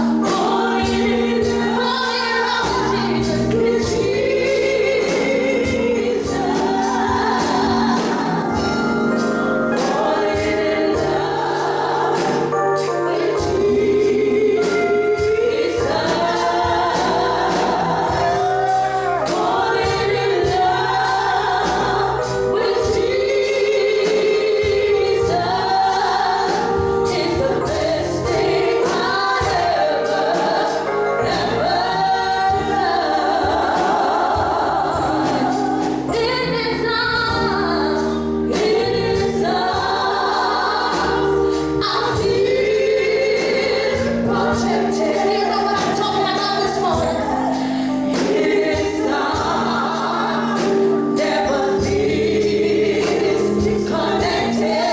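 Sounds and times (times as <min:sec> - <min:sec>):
group gospel singing: 0:00.0 - 0:54.9
instrumental backing with beat: 0:00.0 - 0:54.9.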